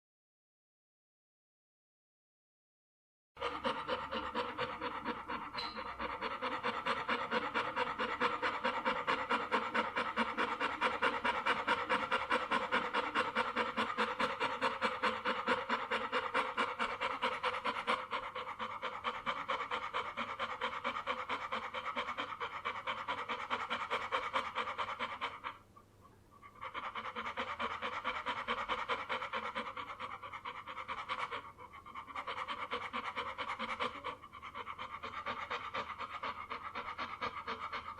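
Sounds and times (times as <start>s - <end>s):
dog panting: 3.4s - 37.9s.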